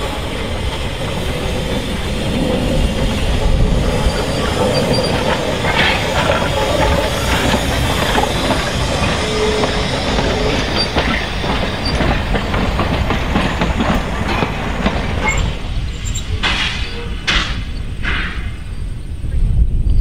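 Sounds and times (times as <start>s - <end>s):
clanks from wheels on track: 0.0s - 19.1s
steam locomotive rumbling: 0.0s - 20.0s.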